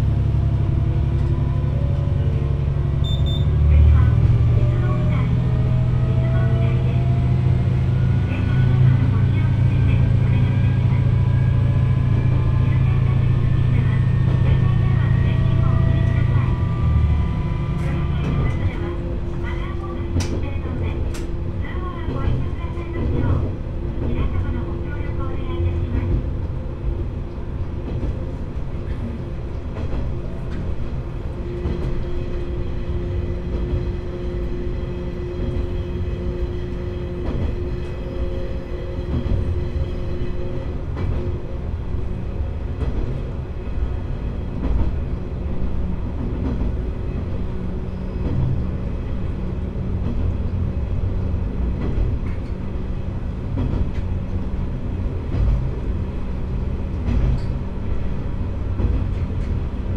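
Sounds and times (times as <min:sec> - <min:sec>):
railcar engine drone: 0:00.0 - 0:59.9
wheel and rail rumble: 0:00.0 - 0:59.9.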